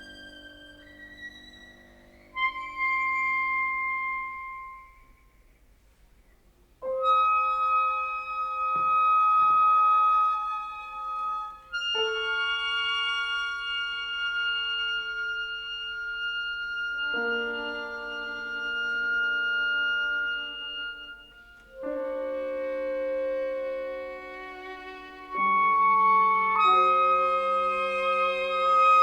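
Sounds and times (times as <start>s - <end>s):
chamber music: 0.0s - 5.4s, 6.8s - 29.0s.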